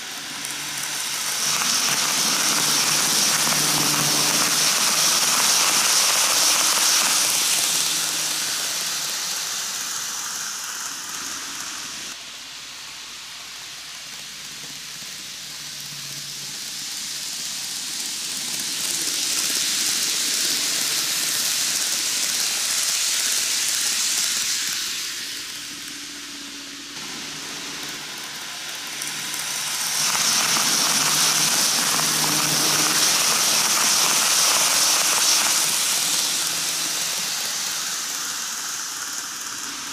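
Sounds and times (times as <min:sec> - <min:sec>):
model train rattling on track: 0:00.0 - 0:12.2, 0:13.0 - 0:39.9.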